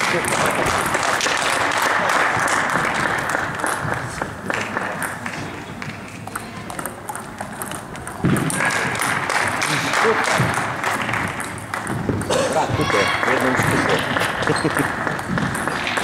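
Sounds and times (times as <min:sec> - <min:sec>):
crowd noise: 0:00.0 - 0:16.0
table tennis balls clattering: 0:00.0 - 0:16.0.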